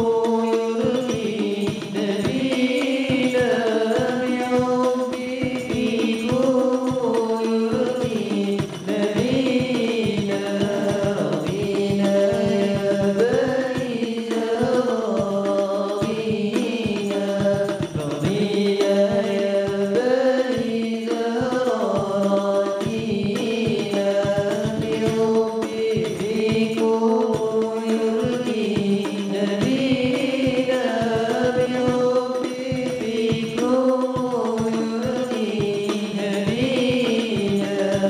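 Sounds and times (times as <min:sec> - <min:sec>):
frame drums beating: 0:00.0 - 0:38.0
young male voices singing: 0:00.0 - 0:38.0.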